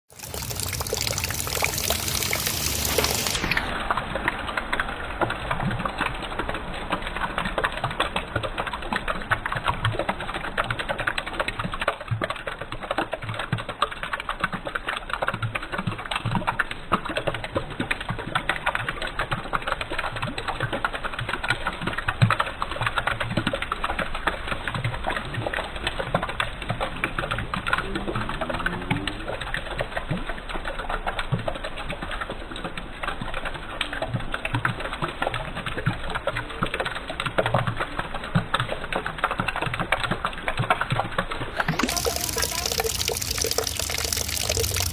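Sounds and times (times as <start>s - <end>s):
raindrops pattering: 0.1s - 44.9s.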